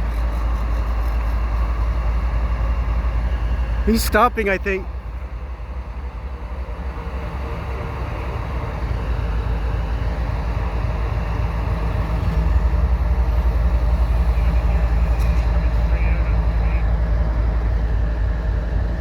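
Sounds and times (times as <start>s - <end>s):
diesel locomotive engines rumbling: 0.0s - 19.0s.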